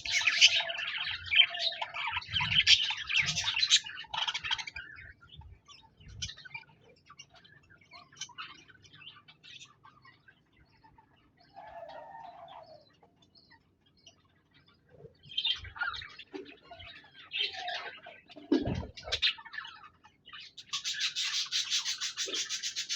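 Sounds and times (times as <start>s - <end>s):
budgerigars chirping and warbling: 0.0s - 22.9s.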